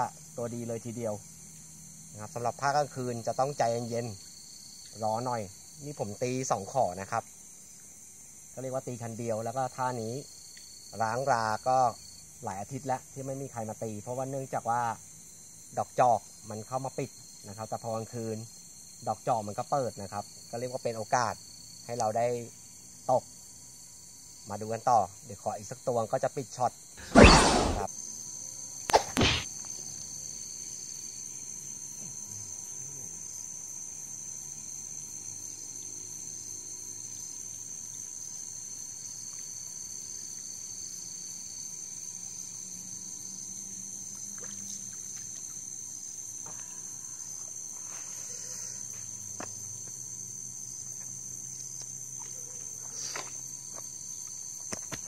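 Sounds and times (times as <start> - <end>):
crickets and insects chirping: 0.0 - 55.0.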